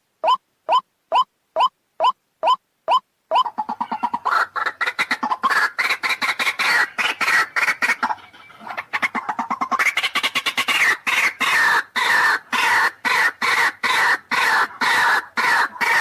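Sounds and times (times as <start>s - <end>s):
waterhen calling: 0.2s - 16.0s.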